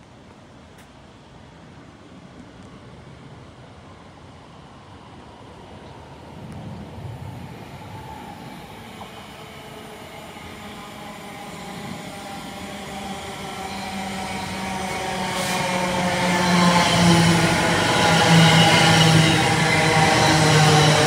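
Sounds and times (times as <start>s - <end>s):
electric train whine: 1.5s - 21.0s.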